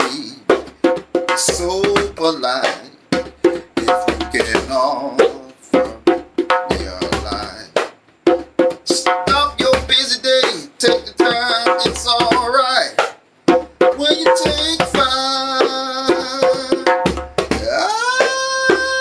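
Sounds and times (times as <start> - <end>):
man singing: 0.0 - 7.9, 8.9 - 13.1, 13.8 - 19.0
backing track of drums and bass: 0.0 - 19.0.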